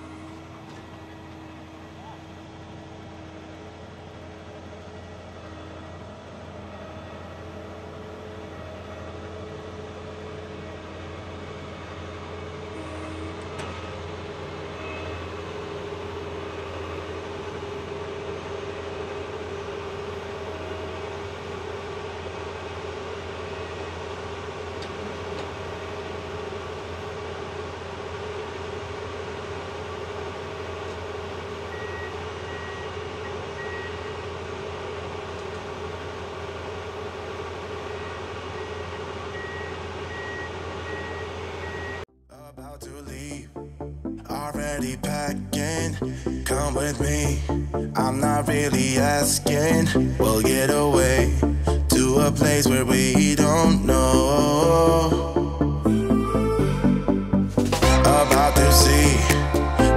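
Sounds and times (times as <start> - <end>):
combine engine drone with whine: 0.0 - 59.9.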